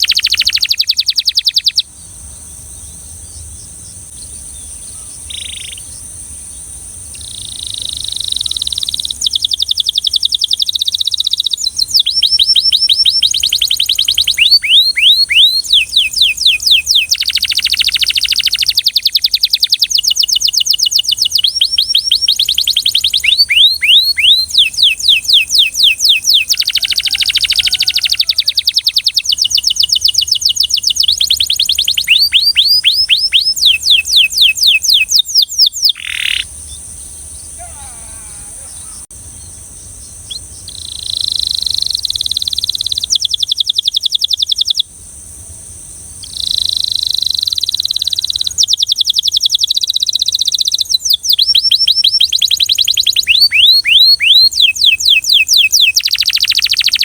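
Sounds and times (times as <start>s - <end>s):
canary singing trills: 0.0s - 44.9s, 46.1s - 57.0s.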